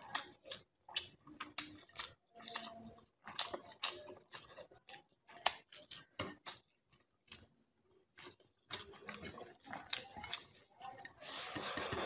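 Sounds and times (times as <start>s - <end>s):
wet chewing and lip smacks: 0.0s - 12.0s.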